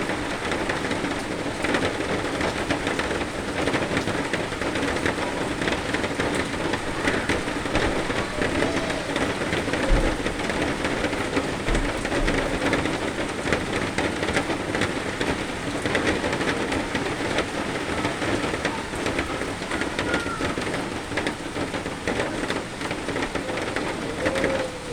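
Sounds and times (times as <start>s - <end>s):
steady rain: 0.0s - 24.9s.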